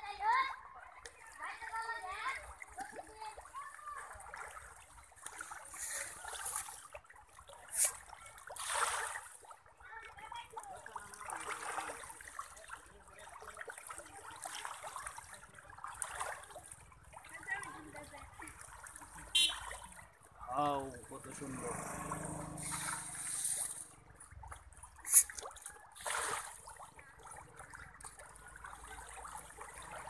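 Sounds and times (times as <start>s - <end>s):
fish splashing at water surface: 2.4s - 9.7s, 10.5s - 20.3s, 21.3s - 30.0s.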